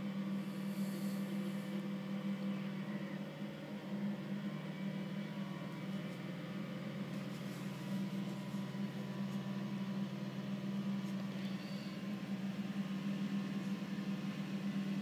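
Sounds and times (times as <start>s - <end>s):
diesel paving machinery droning: 0.0s - 15.0s.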